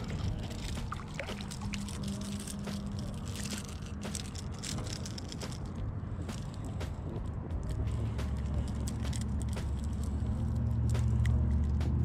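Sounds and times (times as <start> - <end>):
faint clicks and rustles: 0.0 - 12.0
low hum: 0.0 - 12.0
steady low rumble: 0.0 - 12.0.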